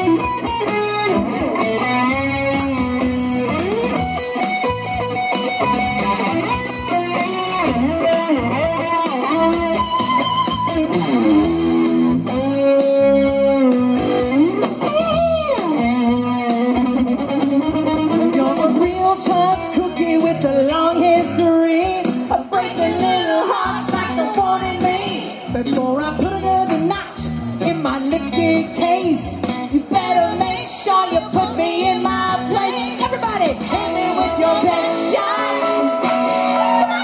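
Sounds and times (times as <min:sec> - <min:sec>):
electric guitar: 0:00.0 - 0:37.0
rock band playing: 0:00.0 - 0:37.0.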